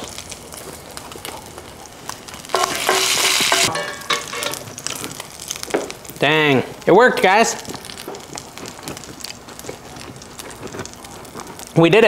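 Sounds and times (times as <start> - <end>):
oil crackling and sizzling: 0.0 - 12.0.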